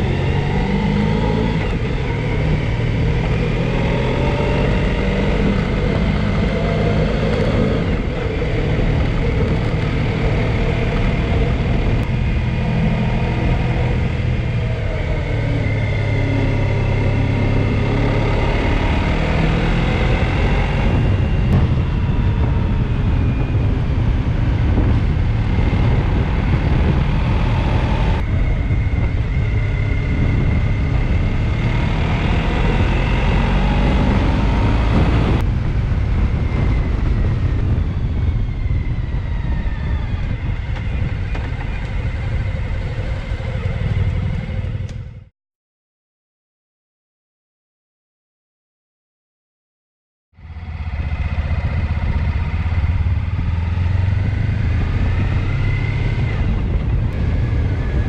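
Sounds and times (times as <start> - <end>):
motorcycle engine running: 0.0 - 45.3, 50.4 - 58.0.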